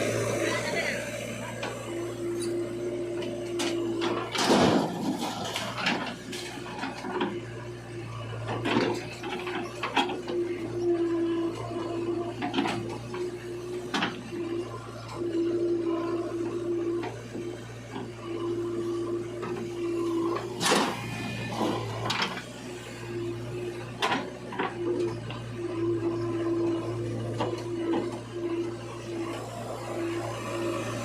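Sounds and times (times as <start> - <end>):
backhoe engine running: 0.0 - 31.0
engine whine: 0.0 - 31.0.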